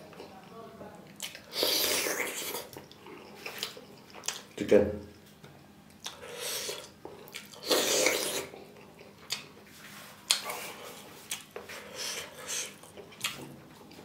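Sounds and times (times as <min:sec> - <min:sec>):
chewing: 0:01.1 - 0:04.6, 0:05.6 - 0:14.0.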